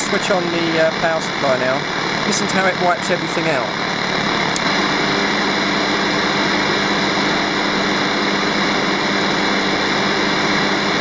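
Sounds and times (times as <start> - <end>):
radio static with hum: 0.0 - 11.0.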